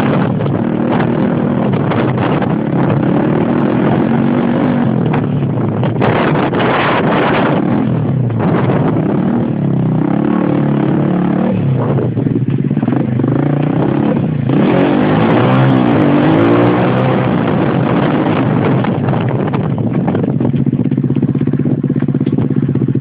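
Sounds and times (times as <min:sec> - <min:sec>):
motorbike engine revving: 0:00.0 - 0:23.0.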